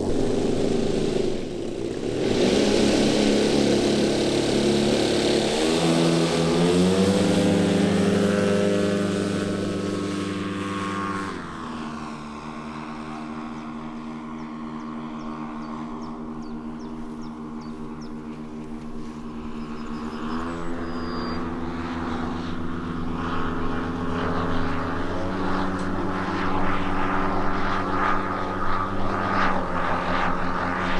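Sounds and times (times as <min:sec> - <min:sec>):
model airplane engines running: 0:00.0 - 0:30.9.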